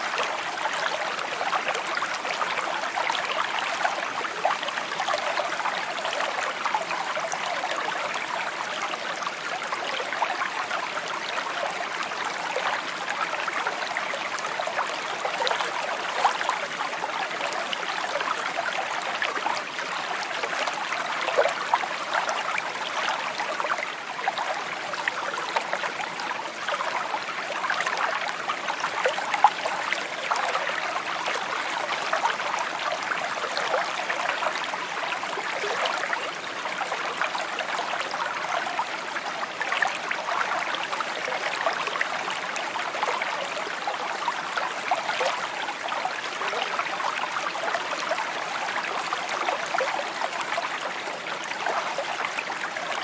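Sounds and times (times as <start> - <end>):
creek babbling over stones: 0.0 - 53.0.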